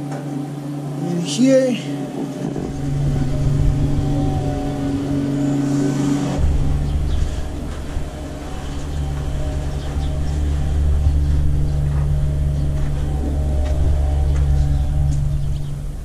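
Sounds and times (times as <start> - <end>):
construction machinery engine running: 0.0 - 16.0.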